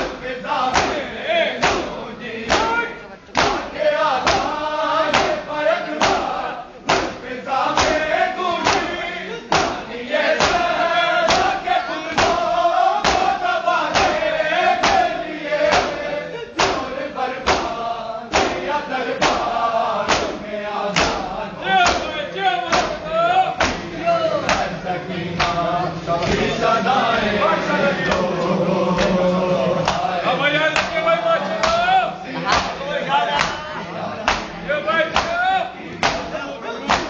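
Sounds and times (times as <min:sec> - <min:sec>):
chest-beating slaps in unison: 0:00.0 - 0:26.6, 0:28.0 - 0:37.0
men chanting together: 0:00.0 - 0:37.0.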